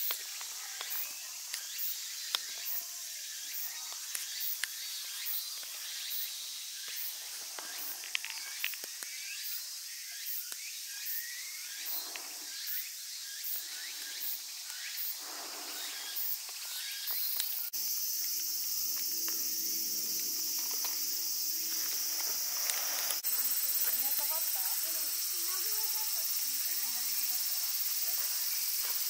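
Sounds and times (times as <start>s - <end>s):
insect chirps: 0.0s - 29.0s
insects shrilling: 0.0s - 29.0s.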